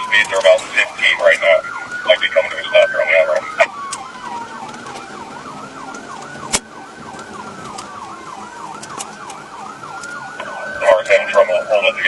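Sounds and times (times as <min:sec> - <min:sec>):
police siren wailing: 0:00.0 - 0:12.0
police siren yelping: 0:00.0 - 0:12.0.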